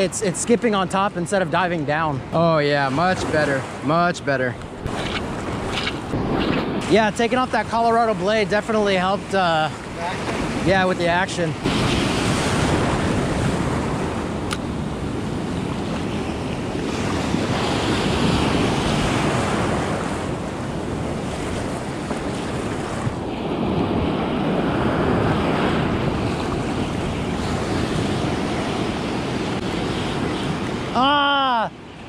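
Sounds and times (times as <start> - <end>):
ocean surf breaking: 0.0 - 32.0
wind on microphone: 4.6 - 31.1.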